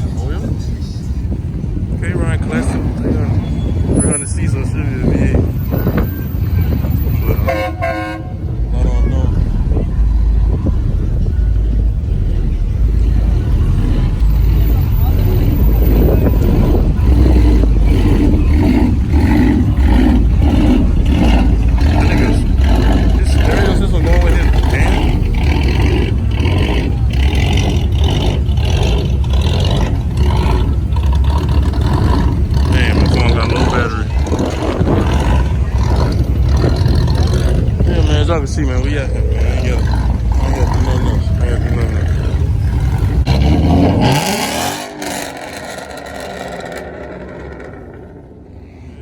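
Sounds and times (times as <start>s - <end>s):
car engines rumbling: 0.0s - 49.0s.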